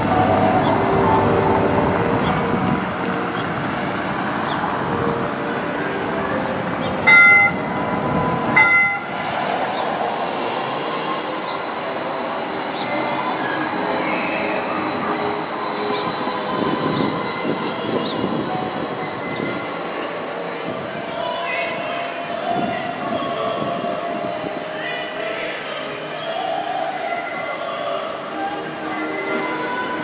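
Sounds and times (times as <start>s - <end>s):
street traffic: 0.0s - 30.0s
streetcar passing: 0.0s - 30.0s.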